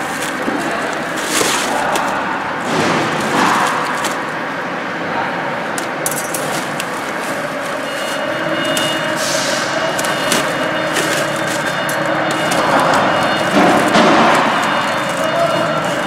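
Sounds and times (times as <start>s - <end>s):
foil duct crinkling: 0.0s - 4.4s, 6.4s - 16.0s
mechanical background noise: 0.0s - 16.0s.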